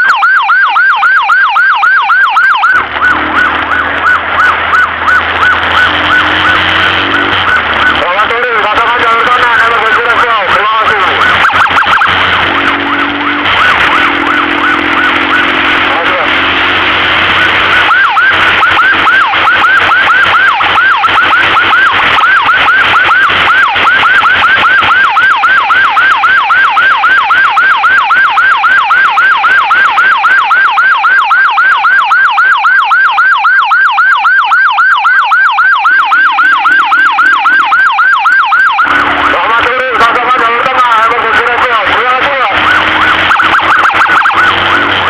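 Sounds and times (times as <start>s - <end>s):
electronic siren yelping: 0.0s - 45.0s.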